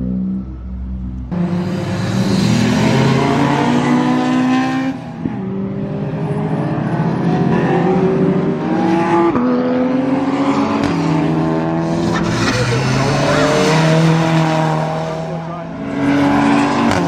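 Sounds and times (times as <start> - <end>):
race car engine accelerating: 1.3 - 17.0.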